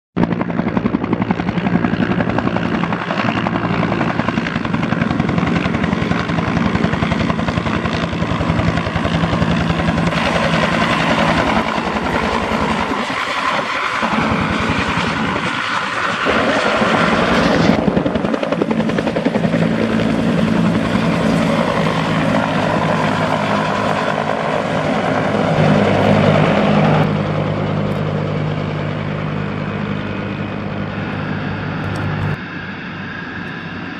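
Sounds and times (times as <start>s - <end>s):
helicopter rotor beating: 0.2s - 33.9s
turbine engine running: 0.8s - 33.9s.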